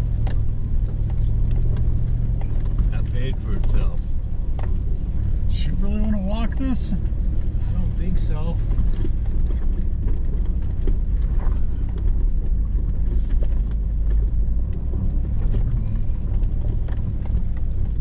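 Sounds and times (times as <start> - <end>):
engine low rumble: 0.0 - 18.0.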